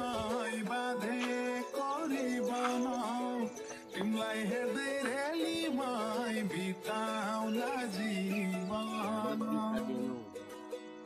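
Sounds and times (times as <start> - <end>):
gliding melodic line: 0.0 - 11.0.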